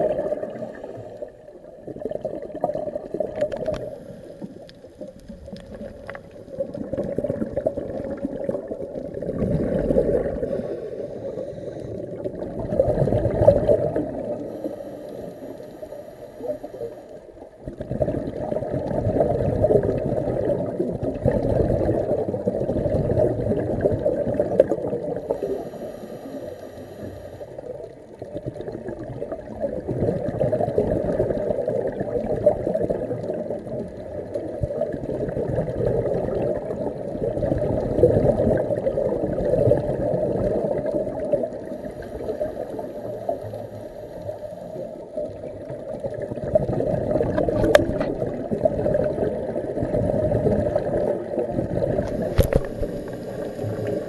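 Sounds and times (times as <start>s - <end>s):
underwater breathing bubbles: 0.0s - 54.0s.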